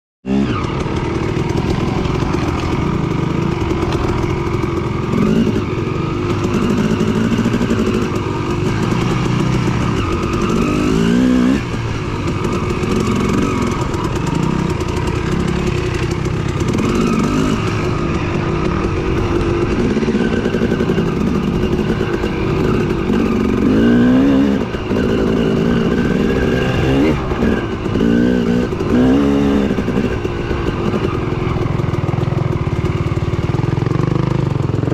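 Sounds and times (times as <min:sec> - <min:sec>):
dirt bike engine revving: 0:00.3 - 0:34.9.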